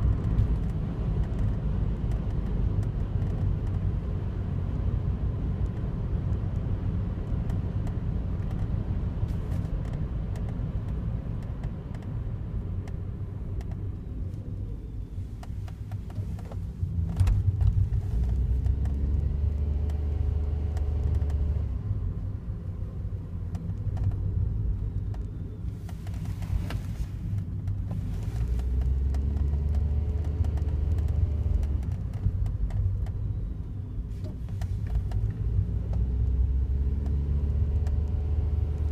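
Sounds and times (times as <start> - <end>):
car engine rumbling: 0.0 - 38.9.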